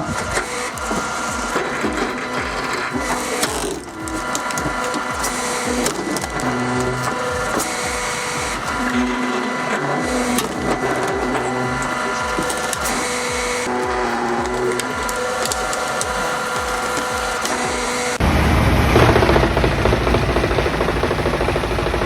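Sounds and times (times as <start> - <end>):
music with steady beat: 0.0 - 21.3
machine crushing and splitting wood: 0.0 - 22.0.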